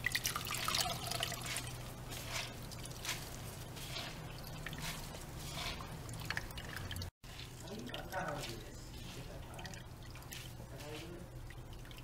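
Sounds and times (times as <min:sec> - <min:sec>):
wet splashes and squishes: 0:00.0 - 0:12.0.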